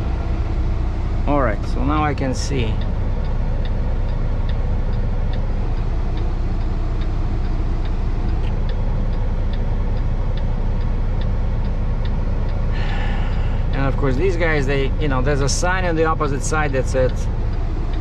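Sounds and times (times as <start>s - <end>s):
diesel truck engine idling: 0.0s - 18.0s
turn signal ticking: 0.0s - 18.0s.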